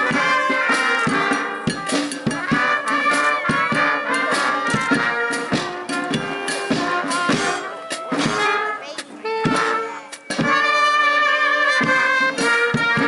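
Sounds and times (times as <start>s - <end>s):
brass band playing: 0.0s - 13.0s
drum beats: 0.0s - 13.0s.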